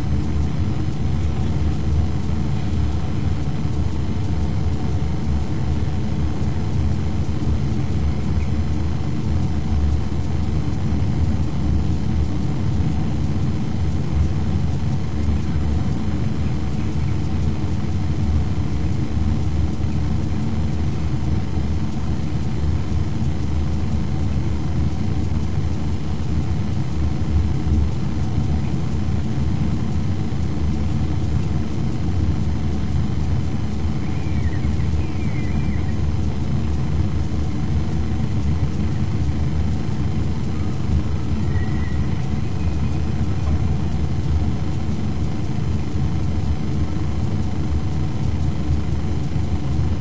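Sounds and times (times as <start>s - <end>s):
faint hum: 0.0s - 50.0s.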